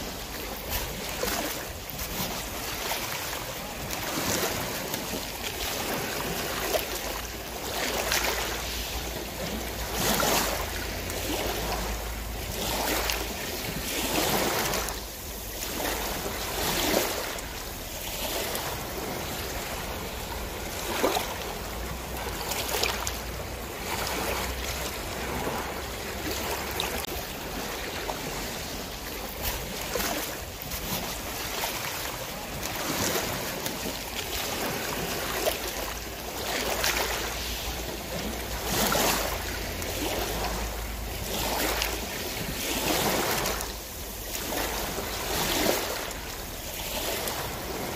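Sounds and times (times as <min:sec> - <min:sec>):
water splashing along boat hull: 0:00.0 - 0:47.9.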